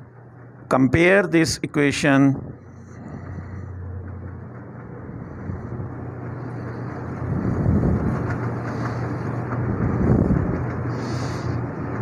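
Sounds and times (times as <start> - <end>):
rumbling background noise: 0.0 - 12.0
steady low hum: 0.0 - 12.0.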